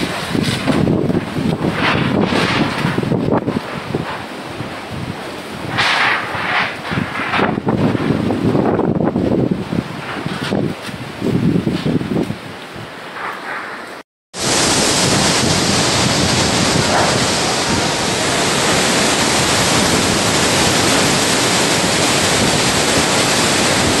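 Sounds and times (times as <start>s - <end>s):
heavy rain: 0.0s - 24.0s
storm wind: 0.0s - 24.0s.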